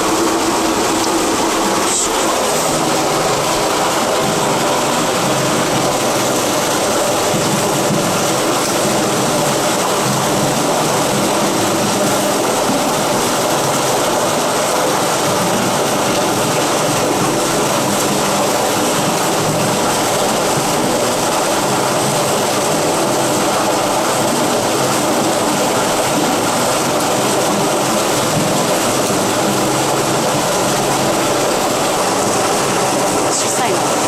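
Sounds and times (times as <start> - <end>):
water splashing into river pool: 0.0 - 34.0.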